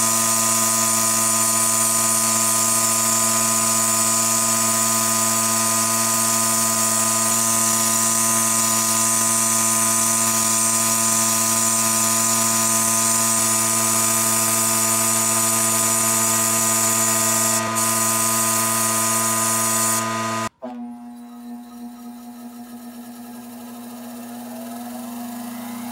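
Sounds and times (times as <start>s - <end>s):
power tool motor whine: 0.0s - 25.9s.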